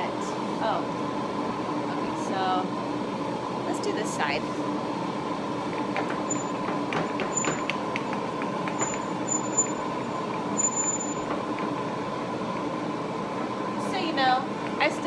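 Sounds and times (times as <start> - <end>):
dust collector droning: 0.1 - 15.0.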